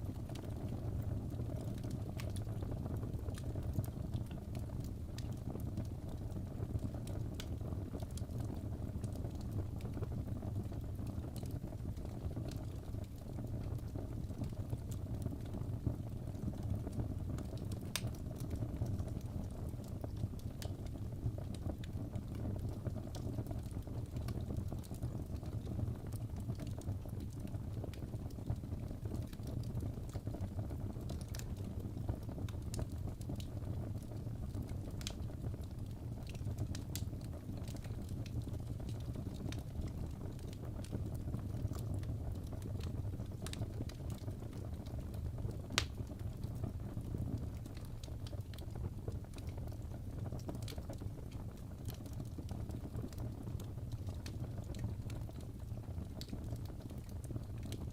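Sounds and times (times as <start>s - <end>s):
crackling fire: 0.0s - 57.9s
fire popping and snapping: 0.0s - 57.9s.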